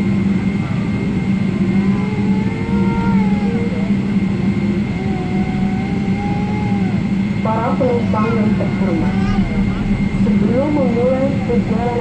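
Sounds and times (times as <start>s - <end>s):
airliner cabin hum: 0.0s - 12.0s
thin steady whine: 2.3s - 12.0s.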